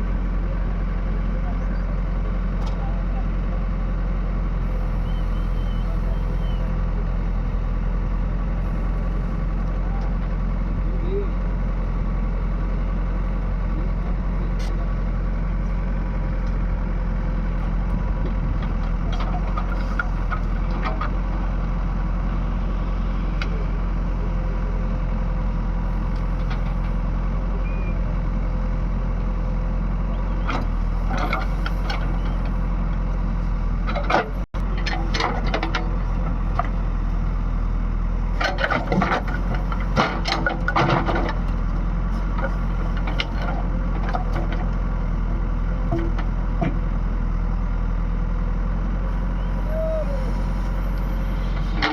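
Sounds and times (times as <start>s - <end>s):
heavy diesel engine running: 0.0s - 51.9s.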